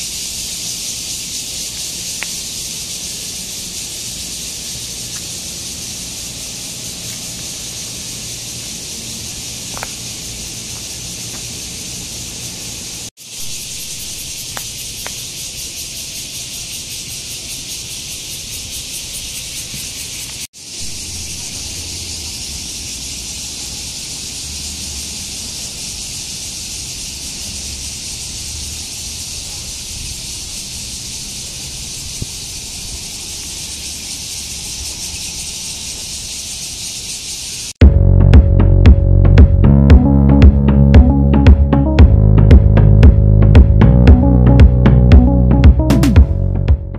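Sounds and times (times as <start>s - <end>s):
cicadas buzzing: 0.0s - 37.8s.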